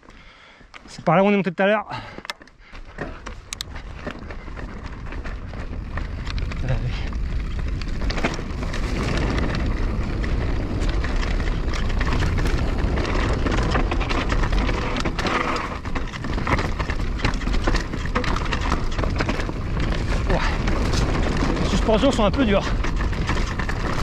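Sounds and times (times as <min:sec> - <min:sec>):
bike rattling: 0:00.0 - 0:24.0
tyres clicking on stones: 0:02.1 - 0:24.0
wind rumbling on microphone: 0:02.9 - 0:24.0.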